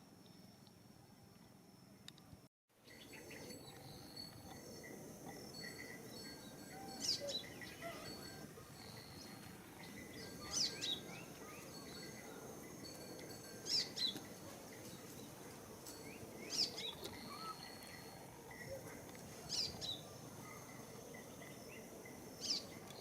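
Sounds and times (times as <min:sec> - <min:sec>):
insect trilling: 0:02.9 - 0:23.0.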